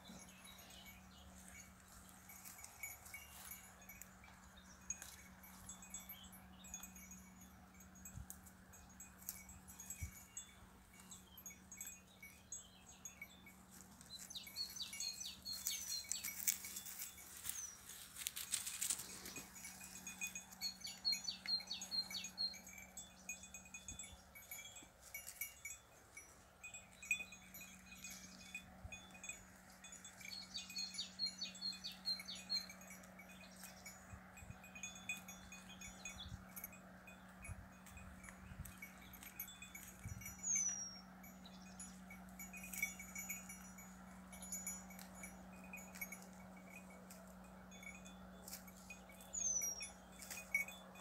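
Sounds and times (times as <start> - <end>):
goat bells tinkling: 0.0 - 51.0.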